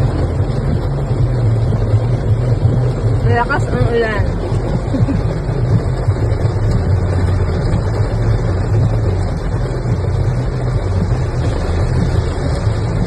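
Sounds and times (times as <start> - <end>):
car engine and tyre noise: 0.0 - 13.0
rain hissing: 0.0 - 13.0.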